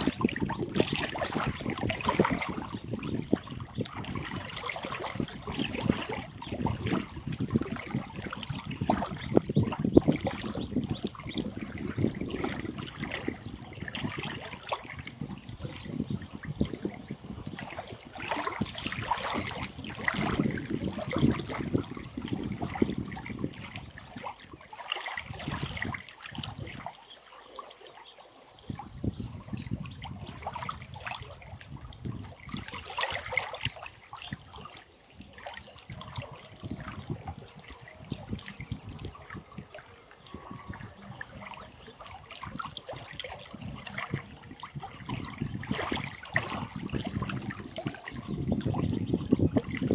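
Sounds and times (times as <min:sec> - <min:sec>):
small waves lapping against rocks: 0:00.0 - 0:49.9.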